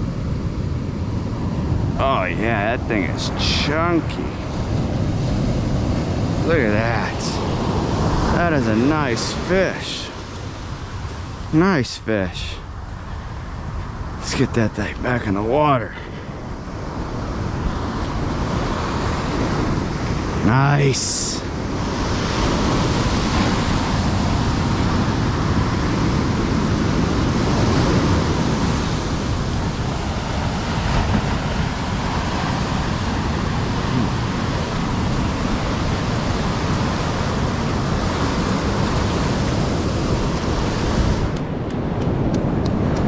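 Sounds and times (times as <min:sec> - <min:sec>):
surf breaking on sand: 0:00.0 - 0:43.0.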